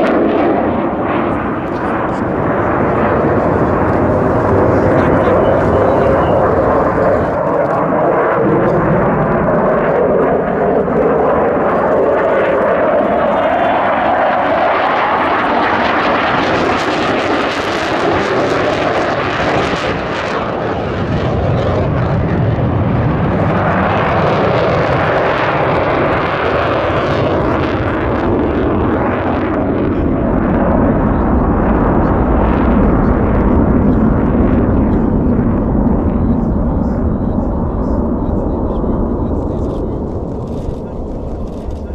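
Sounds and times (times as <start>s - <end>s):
jet roar: 0.0s - 41.9s.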